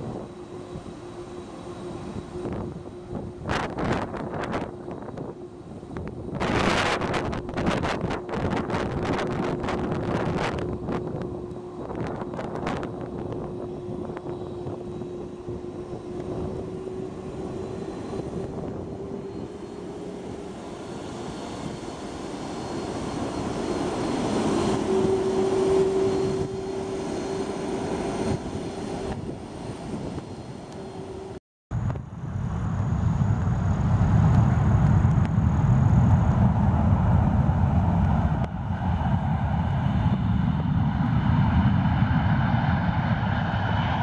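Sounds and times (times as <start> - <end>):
jet engines whining: 0.0 - 44.0
wind buffeting microphone: 0.0 - 44.0.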